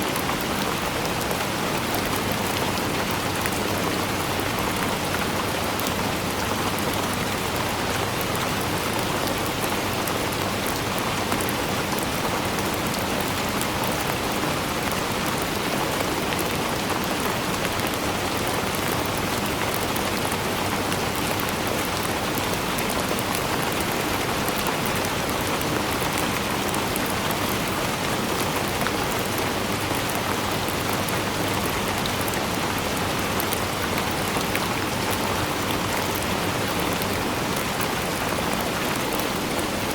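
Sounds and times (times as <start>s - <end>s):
steady rain on surfaces: 0.0s - 39.9s.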